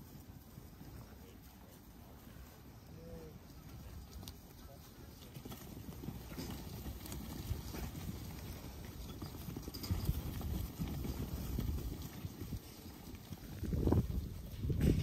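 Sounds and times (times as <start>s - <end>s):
sheep hooves on grass: 0.0s - 15.0s.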